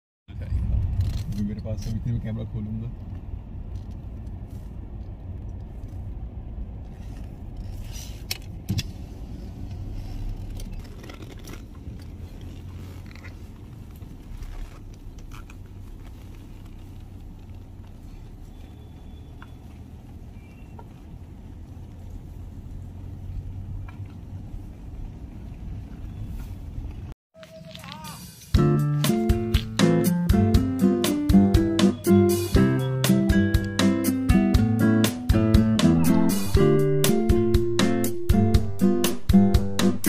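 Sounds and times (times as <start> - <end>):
car engine low rumble: 0.3 - 40.0.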